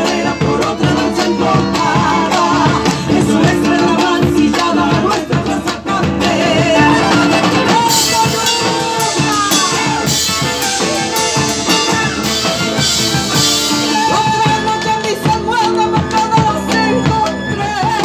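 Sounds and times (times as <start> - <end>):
bass drums beaten with sticks: 0.0 - 15.6
acoustic guitar: 0.0 - 18.0
drum kit: 0.0 - 18.0
person singing: 0.0 - 18.0.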